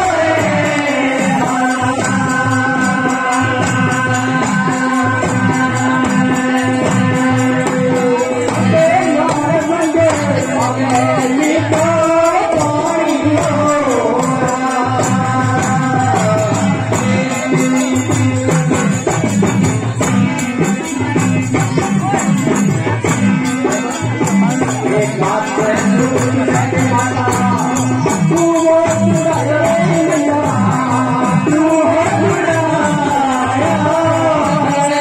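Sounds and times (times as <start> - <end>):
man singing folk song: 0.0 - 18.4, 24.4 - 35.0
accompanying instruments: 0.0 - 35.0.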